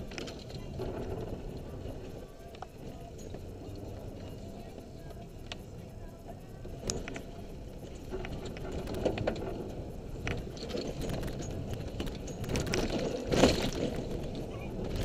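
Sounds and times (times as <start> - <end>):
tyre and engine rumble: 0.0 - 15.0.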